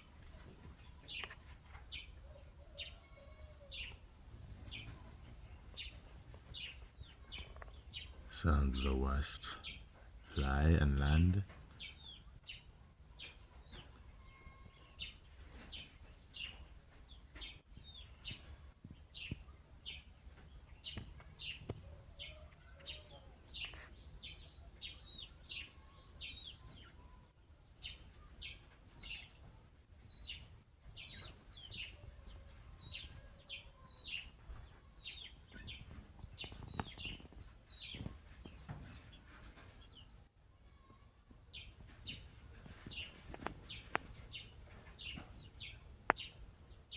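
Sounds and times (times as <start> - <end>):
faint low background noise: 0.0 - 46.9
small birds chirping: 0.0 - 46.9.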